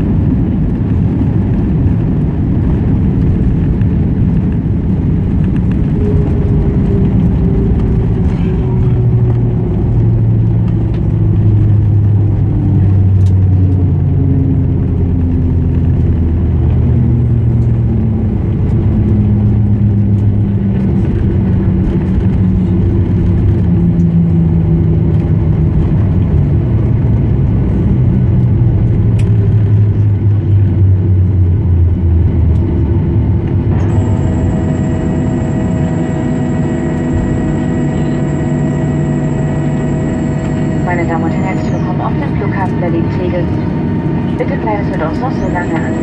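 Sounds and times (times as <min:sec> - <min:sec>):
aircraft cabin rumble: 0:00.0 - 0:46.0
low hums drifting in pitch: 0:03.2 - 0:46.0.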